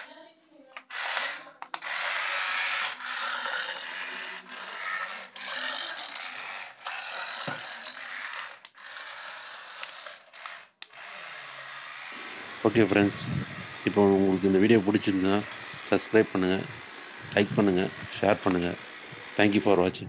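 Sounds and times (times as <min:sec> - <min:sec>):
toy gear motor whirring: 0:00.0 - 0:20.0.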